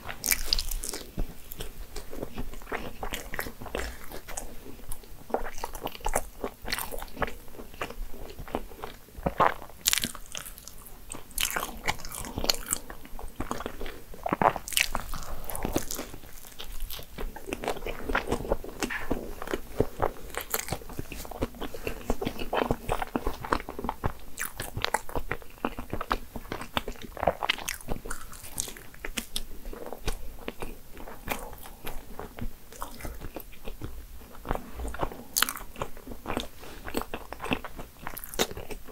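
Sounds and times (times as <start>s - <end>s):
biting and chewing pastry: 0.0s - 38.9s.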